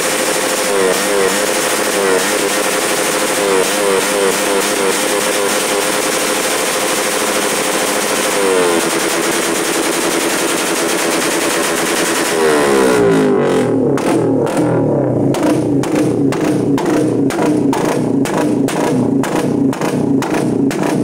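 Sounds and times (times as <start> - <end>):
exhaust backfire pops: 0.0 - 21.0
motorcycle engine revving: 0.0 - 21.0.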